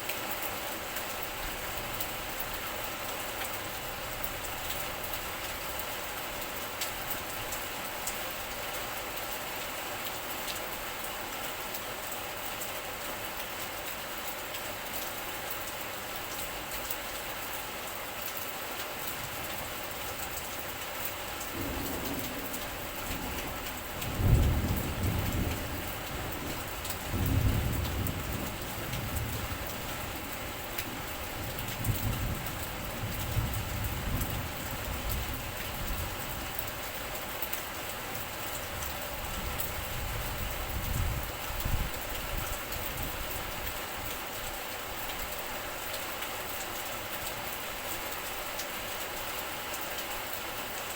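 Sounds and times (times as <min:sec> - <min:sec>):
rain hiss: 0:00.0 - 0:50.9.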